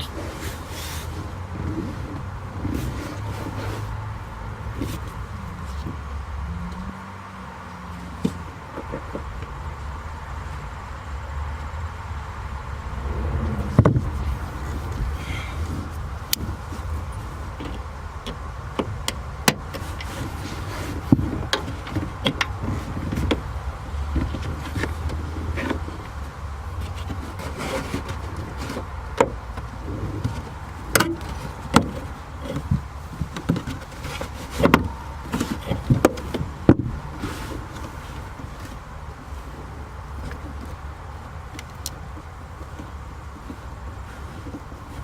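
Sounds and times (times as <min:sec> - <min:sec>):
low steady rumble: 0:00.0 - 0:45.0.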